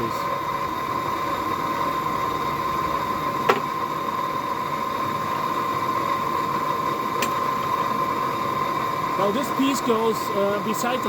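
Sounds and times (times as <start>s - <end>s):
forge humming: 0.0s - 11.0s
high whine: 0.0s - 11.0s.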